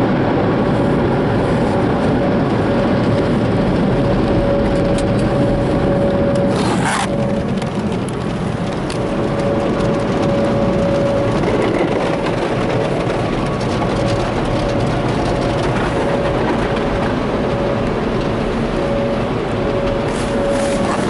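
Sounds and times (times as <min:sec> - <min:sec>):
car wash machinery rushing: 0:00.0 - 0:21.0.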